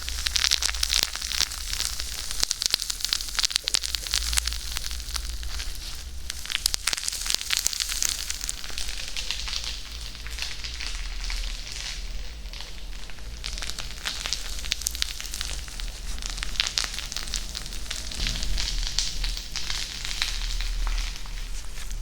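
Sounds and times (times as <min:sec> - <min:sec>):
crackle of small clicks: 0:00.0 - 0:22.0
low steady hum: 0:00.0 - 0:22.0.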